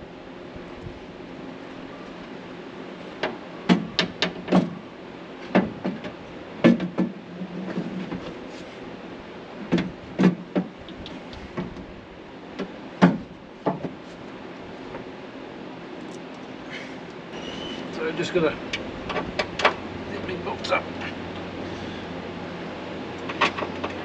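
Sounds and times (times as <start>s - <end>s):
garage fan humming: 0.0s - 24.0s.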